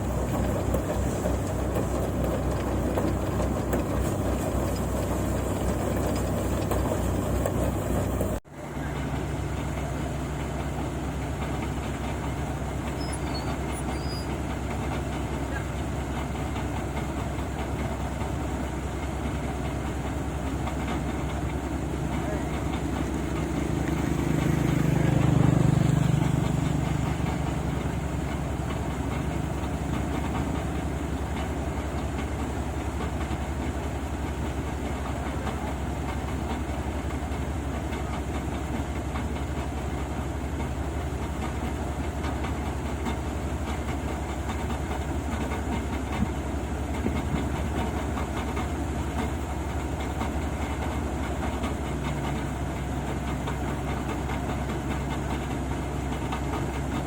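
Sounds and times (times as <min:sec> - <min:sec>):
harvester engine running: 0:00.0 - 0:57.0
low engine rumble: 0:00.0 - 0:57.0.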